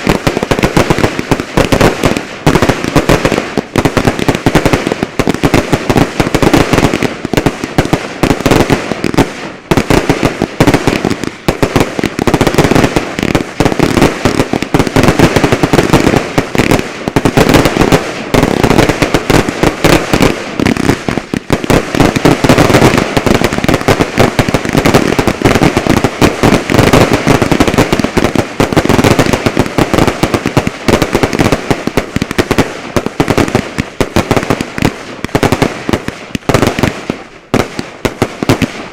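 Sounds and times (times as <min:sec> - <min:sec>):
fireworks barrage: 0:00.0 - 0:38.9.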